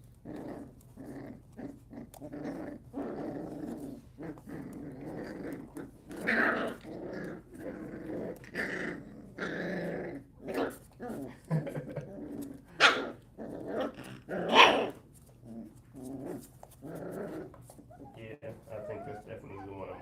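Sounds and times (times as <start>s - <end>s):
puppies growling: 0.0s - 20.0s.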